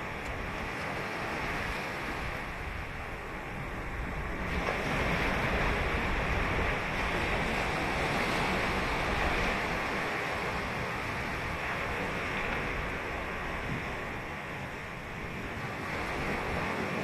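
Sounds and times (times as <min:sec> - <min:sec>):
ocean surf breaking on beach: 0:00.0 - 0:17.0
wind noise on microphone: 0:00.0 - 0:17.0.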